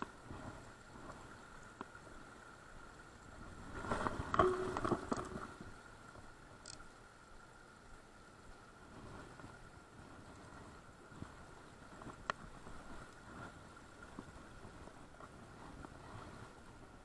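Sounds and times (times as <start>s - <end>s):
river running over stones: 0.0s - 17.0s.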